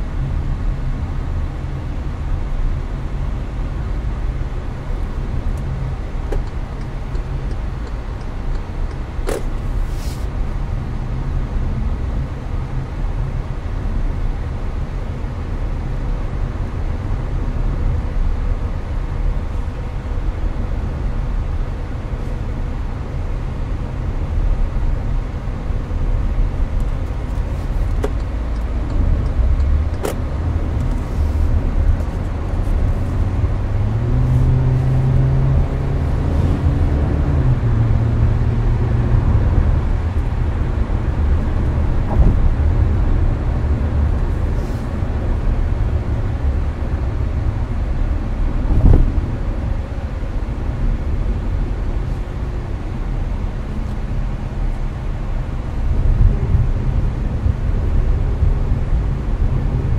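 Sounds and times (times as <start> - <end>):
low engine hum: 0.0 - 59.9
road and engine rumble: 0.0 - 59.9.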